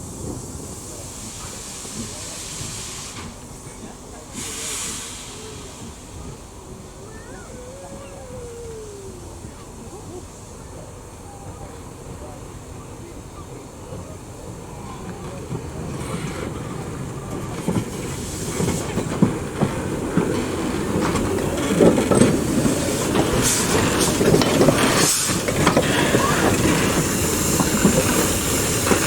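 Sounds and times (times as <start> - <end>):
steam hiss: 0.0 - 29.0
steam train approaching: 0.0 - 29.0.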